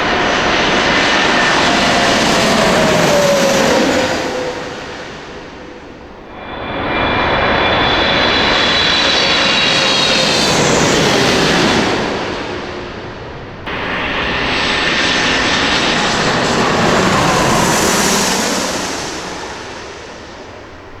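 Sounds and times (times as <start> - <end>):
high jet engine whine: 0.0 - 21.0
jet airliners passing overhead: 0.0 - 21.0.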